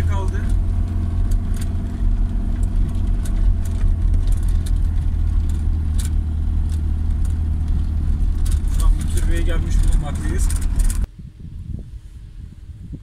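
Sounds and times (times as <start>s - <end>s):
car engine drone: 0.0s - 11.1s
light clicks and rattles: 0.1s - 11.1s.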